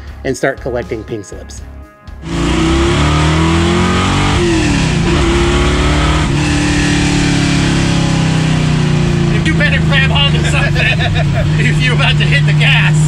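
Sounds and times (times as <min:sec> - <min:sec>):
car engine accelerating hard: 0:02.2 - 0:13.0.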